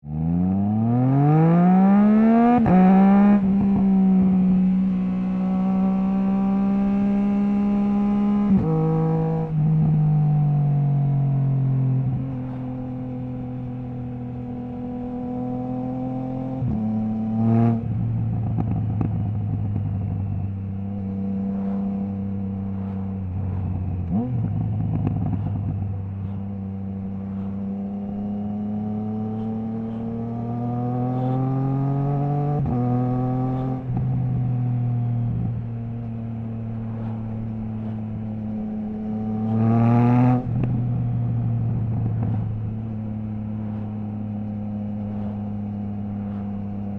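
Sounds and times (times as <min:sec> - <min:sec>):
motorcycle engine accelerating through gears: 0:00.0 - 0:46.9.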